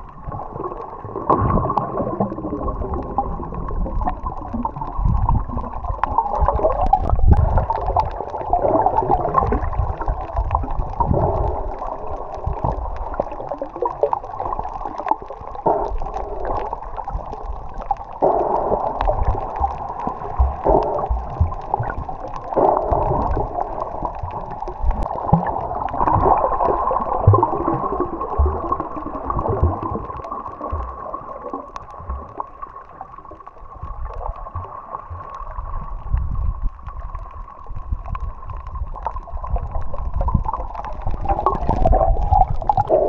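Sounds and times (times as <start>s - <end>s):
rushing gurgling water: 0.0s - 43.0s.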